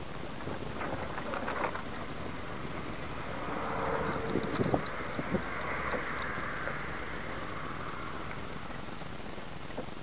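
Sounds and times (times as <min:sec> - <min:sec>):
gusty wind on microphone: 0:00.0 - 0:10.0.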